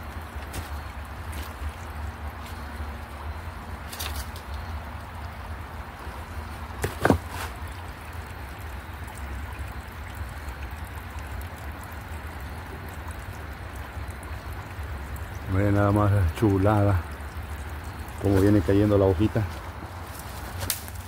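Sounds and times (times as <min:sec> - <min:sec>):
stream trickling over stones: 0:00.0 - 0:21.0.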